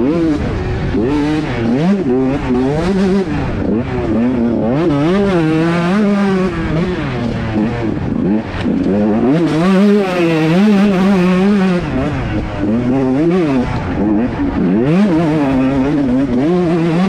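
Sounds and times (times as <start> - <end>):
motocross bike engine revving: 0.0 - 17.0.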